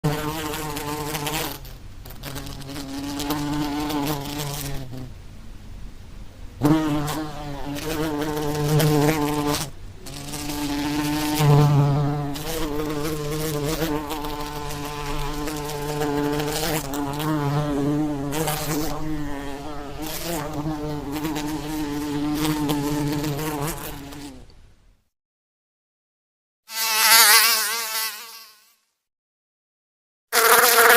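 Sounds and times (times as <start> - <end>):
flies buzzing: 0.0 - 5.3, 6.6 - 24.6, 26.7 - 28.9, 30.3 - 30.9.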